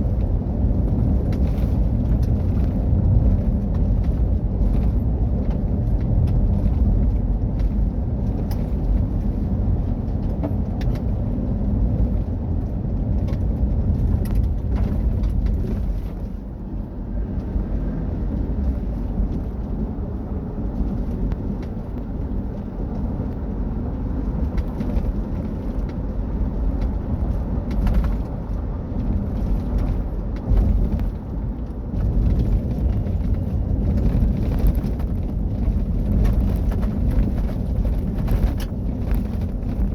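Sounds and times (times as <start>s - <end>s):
rally car engine rumbling: 0.0s - 39.9s.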